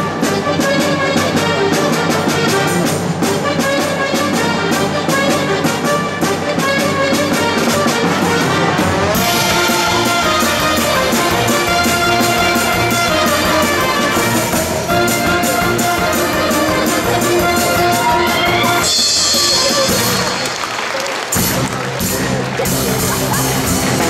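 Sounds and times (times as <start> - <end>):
circus band music with brass: 0.0 - 24.0.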